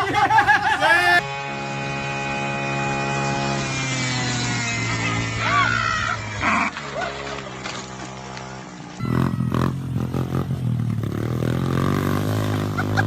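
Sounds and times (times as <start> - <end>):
small engine running: 0.5 - 13.0.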